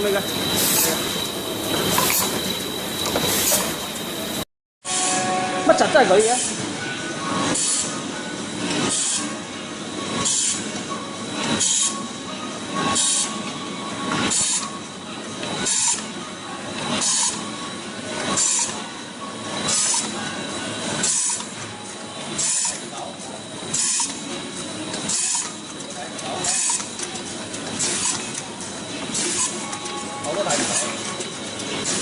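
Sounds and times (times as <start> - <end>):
printing machine running: 0.0 - 5.1, 7.3 - 32.0.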